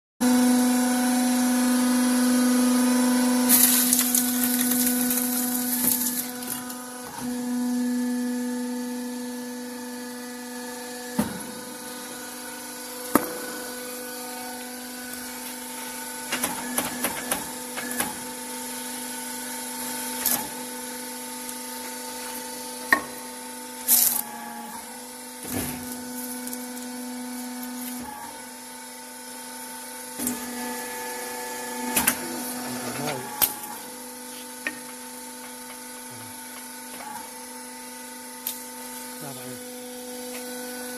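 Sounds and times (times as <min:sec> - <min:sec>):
machine electric hum: 0:00.2 - 0:40.9.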